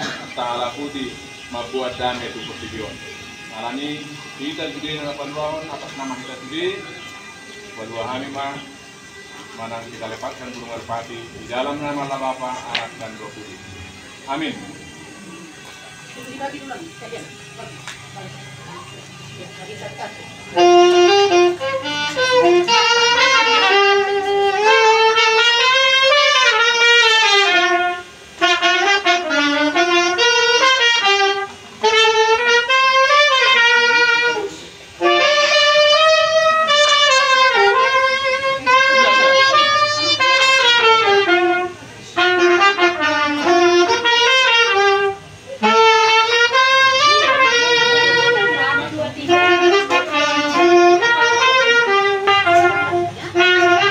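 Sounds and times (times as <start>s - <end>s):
instrumental melody: 0.0s - 53.9s.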